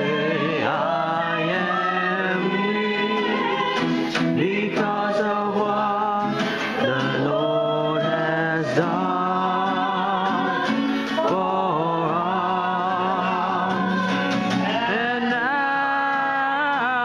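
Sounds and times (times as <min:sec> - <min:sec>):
acoustic guitar: 0:00.0 - 0:17.0
woman and man singing: 0:00.0 - 0:17.0.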